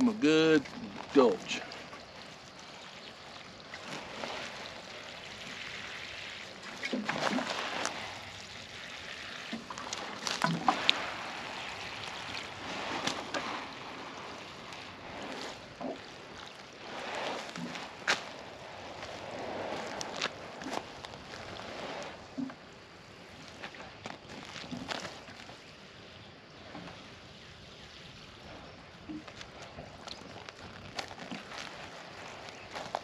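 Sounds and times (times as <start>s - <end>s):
water pouring onto soil: 0.0s - 22.4s, 27.8s - 33.0s.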